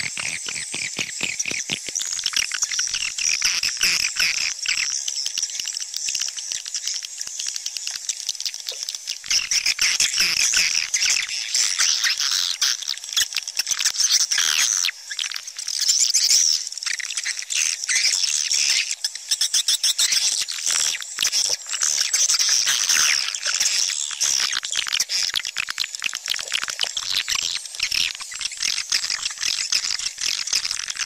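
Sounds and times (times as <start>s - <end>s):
swiftlets chirping and twittering: 0.0s - 31.0s.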